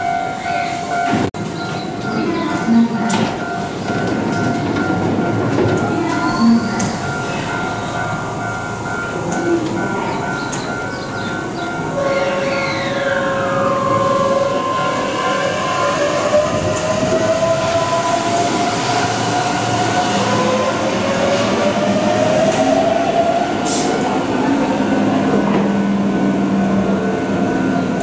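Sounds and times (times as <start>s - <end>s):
rail and wheel rumble: 0.0s - 28.0s.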